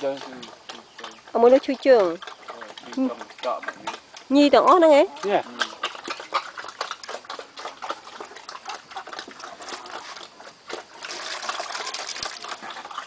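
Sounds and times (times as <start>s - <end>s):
pigs chomping feed: 0.0s - 13.0s.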